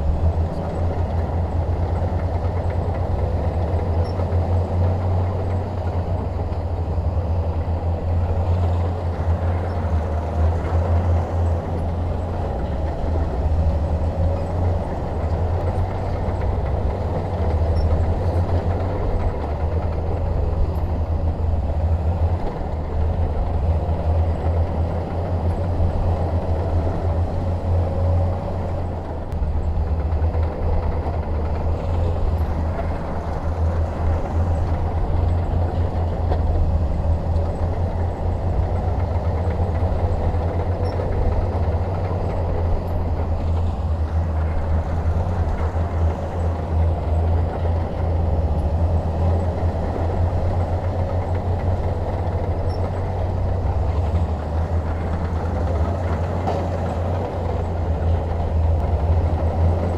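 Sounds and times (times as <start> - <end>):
bulldozer diesel engine: 0.0 - 59.9.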